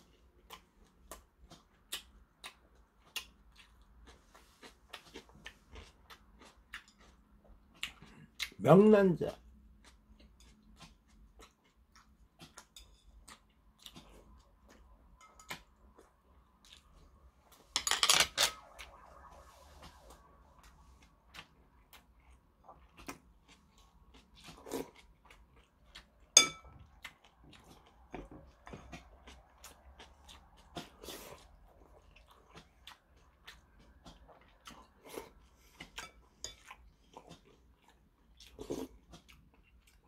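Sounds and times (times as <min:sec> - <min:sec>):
soft chewing: 0:00.0 - 0:08.6, 0:09.3 - 0:17.7, 0:18.6 - 0:40.0.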